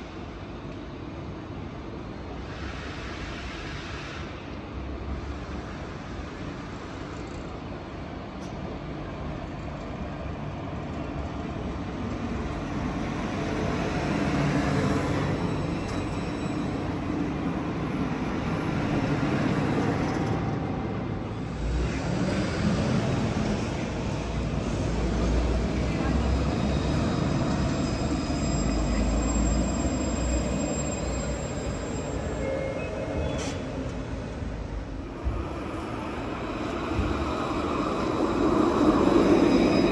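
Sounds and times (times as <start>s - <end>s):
tram running: 4.4s - 39.9s.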